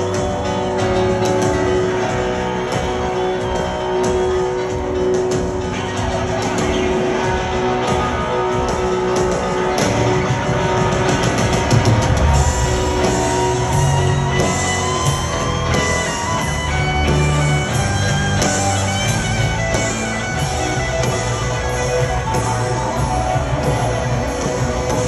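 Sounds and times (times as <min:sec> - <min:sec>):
bass guitar: 0:00.0 - 0:25.0
drums: 0:00.0 - 0:25.0
electric guitar solo: 0:00.0 - 0:25.0.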